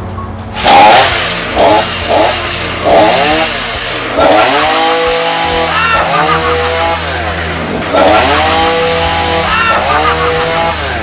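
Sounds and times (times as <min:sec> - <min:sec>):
chainsaw revving: 0:00.6 - 0:11.0.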